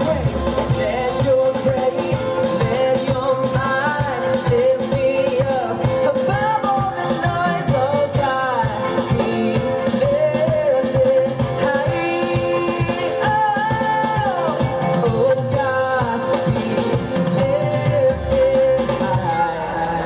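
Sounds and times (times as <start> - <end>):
steady drum beat: 0.0 - 19.6
guitars: 0.0 - 20.0.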